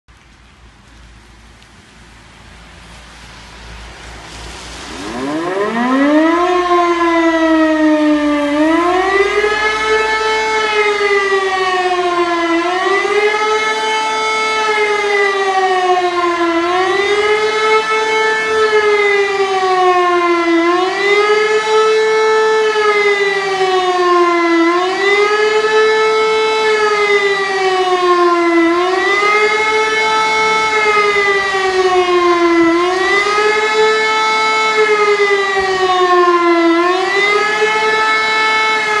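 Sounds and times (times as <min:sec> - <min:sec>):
civil defence siren wailing: 0:02.2 - 0:39.0.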